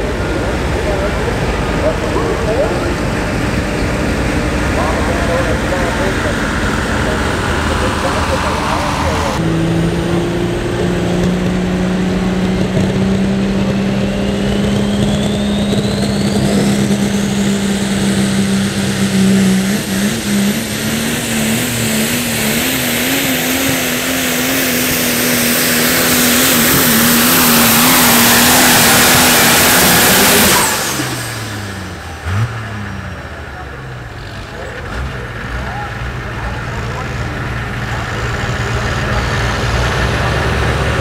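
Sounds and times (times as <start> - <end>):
diesel truck engine at full throttle: 0.0 - 41.0
turbocharger whine: 0.0 - 41.0.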